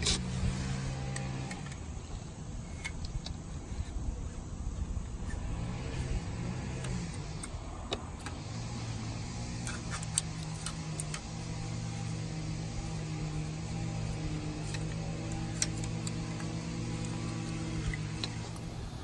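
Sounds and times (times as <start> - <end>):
metal scraper scraping metal: 0.0 - 1.9, 2.5 - 18.6
low mechanical hum: 0.0 - 19.0.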